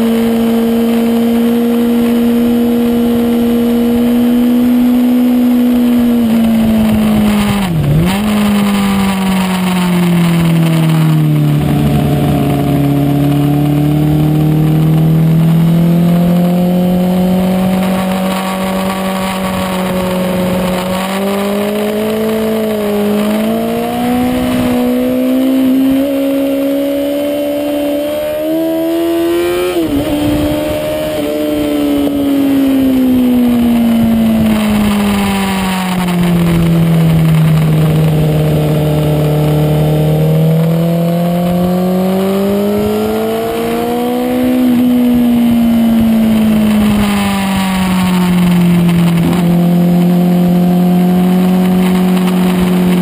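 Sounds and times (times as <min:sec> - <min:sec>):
motorcycle engine revving: 0:00.0 - 0:53.0
engine crackle: 0:05.6 - 0:27.2, 0:27.9 - 0:53.0.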